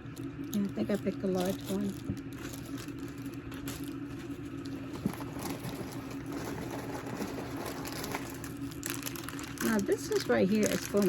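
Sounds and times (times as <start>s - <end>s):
rustling of packaged items: 0.0s - 11.0s
steady low hum: 0.0s - 11.0s.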